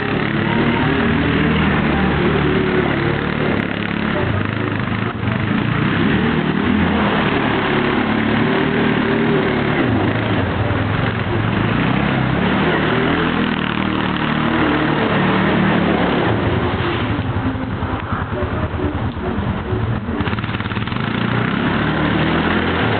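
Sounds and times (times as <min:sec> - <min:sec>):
atv engine revving: 0:00.0 - 0:22.9.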